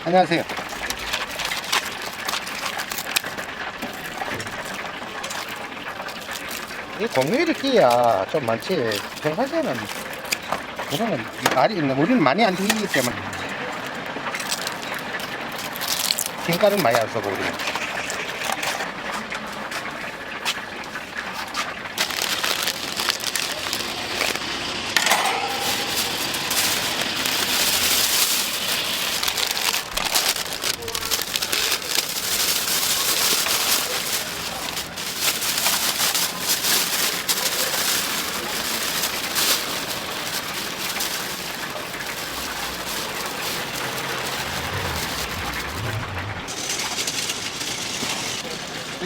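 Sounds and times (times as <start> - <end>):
chicken deep-frying in oil: 0.0 - 49.0.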